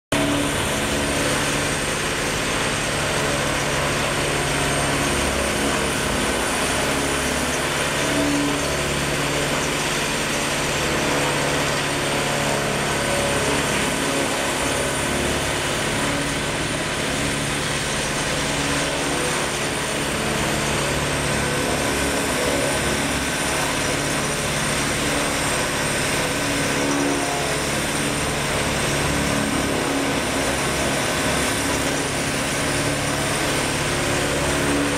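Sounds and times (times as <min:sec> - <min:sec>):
tub grinder engine drone: 0:00.1 - 0:34.9
wood grinding noise: 0:00.2 - 0:34.9.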